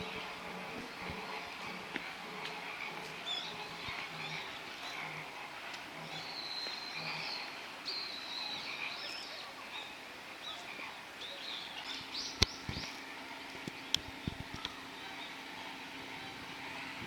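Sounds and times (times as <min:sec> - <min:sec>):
small birds chirping: 0:00.0 - 0:16.3
low steady hum: 0:00.0 - 0:17.0.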